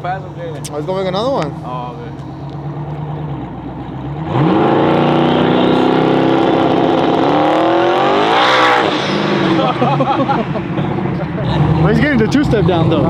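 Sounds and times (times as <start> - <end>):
truck engine revving and accelerating: 0.0 - 13.0.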